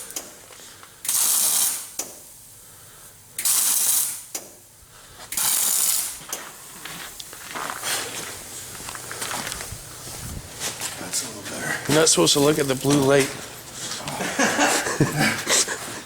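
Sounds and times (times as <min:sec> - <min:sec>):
arc welder crackling hiss: 0:00.0 - 0:16.0.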